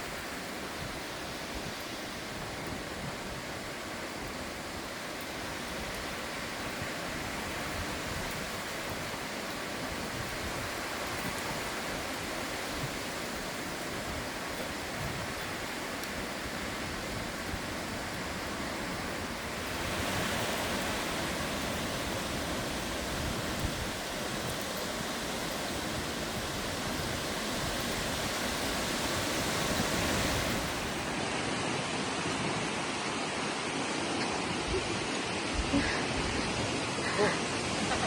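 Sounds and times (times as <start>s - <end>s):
strong gusting wind on microphone: 0.0s - 38.0s.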